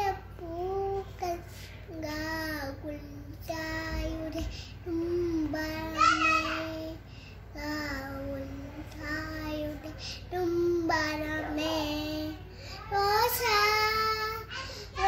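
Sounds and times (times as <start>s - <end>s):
girl singing: 0.0s - 15.0s.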